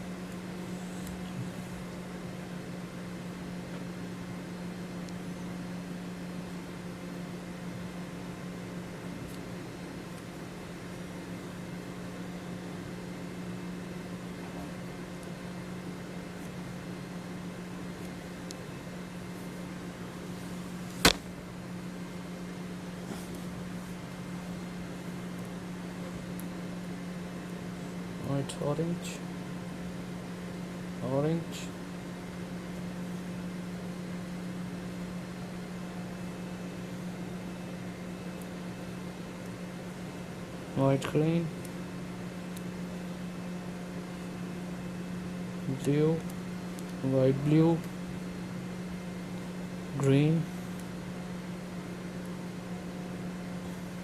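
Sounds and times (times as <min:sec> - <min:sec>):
fan hum and hiss: 0:00.0 - 0:54.0.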